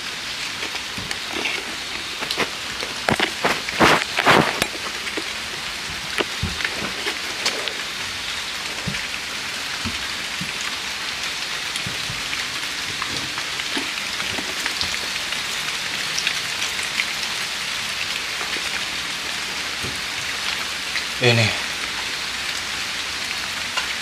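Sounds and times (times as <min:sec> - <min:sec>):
hiss of rain: 0:00.0 - 0:24.0.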